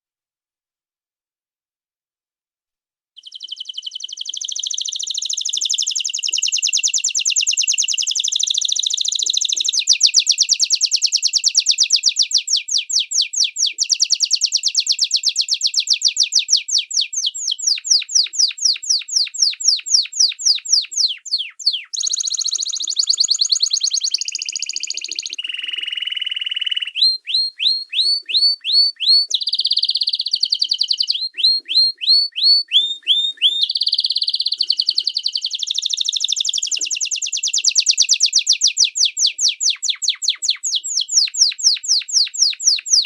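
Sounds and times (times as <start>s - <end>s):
songbird singing: 3.2s - 43.0s.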